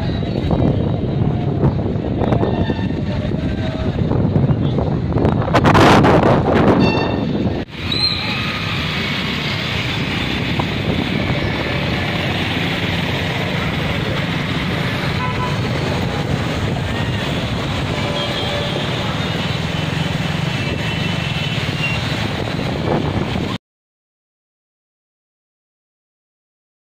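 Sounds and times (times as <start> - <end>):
car and motorcycle engines: 0.0 - 23.6.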